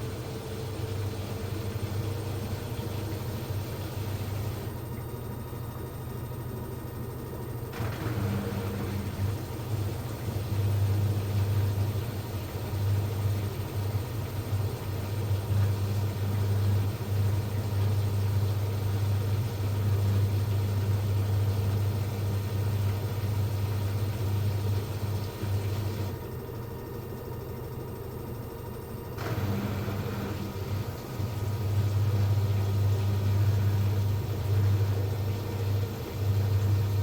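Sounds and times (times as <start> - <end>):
washing machine spin hum: 0.0 - 37.0.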